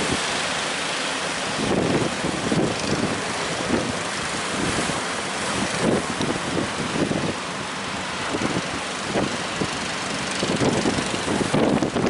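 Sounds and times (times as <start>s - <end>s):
boat engine running: 0.0s - 12.0s
waves splashing against hull: 0.0s - 12.0s
wind buffeting microphone: 1.4s - 12.0s.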